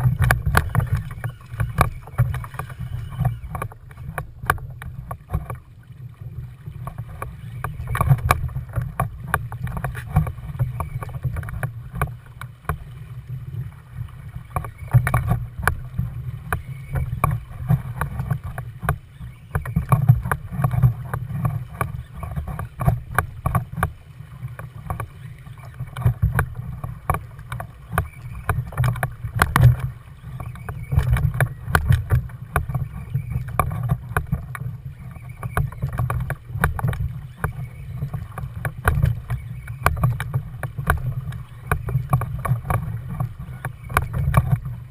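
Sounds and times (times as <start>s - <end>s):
water lapping against a hull: 0.0s - 44.9s.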